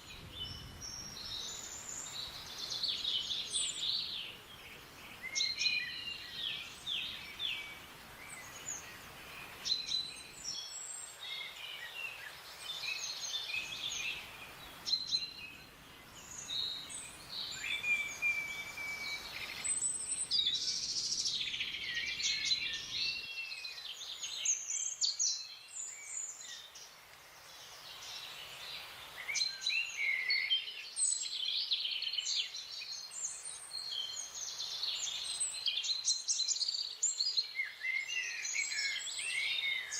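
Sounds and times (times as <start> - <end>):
birds chirping and trilling: 0.0 - 39.9
faint background hiss: 0.0 - 39.9.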